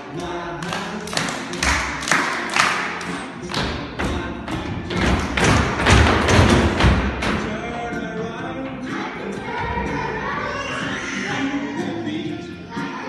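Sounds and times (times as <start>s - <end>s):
song playing: 0.0s - 13.0s.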